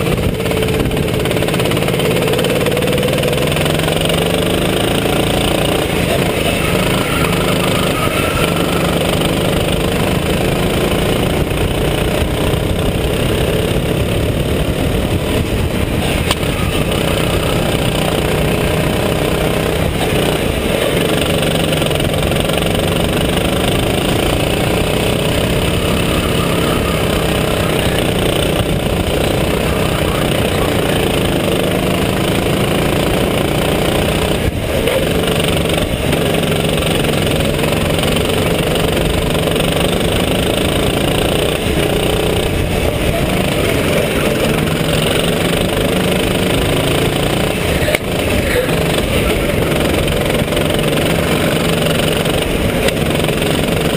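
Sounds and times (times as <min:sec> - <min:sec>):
go-kart engine revving: 0:00.0 - 0:53.9.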